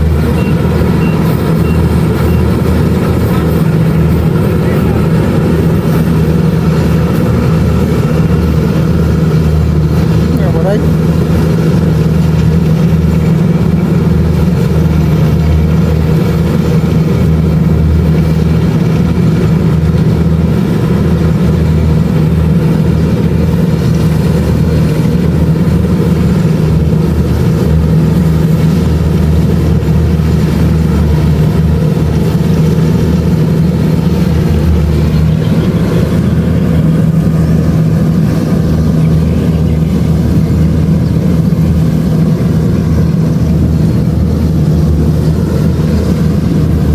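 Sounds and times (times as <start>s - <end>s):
diesel engine humming: 0.0s - 46.9s.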